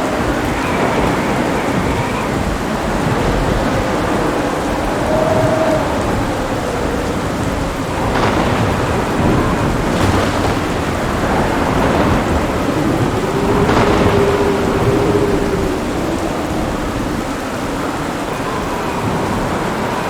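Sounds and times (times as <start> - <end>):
sharp thunder cracks: 0.0 - 18.0
heavy rain falling: 0.0 - 20.0
rumbling thunder: 0.0 - 20.0.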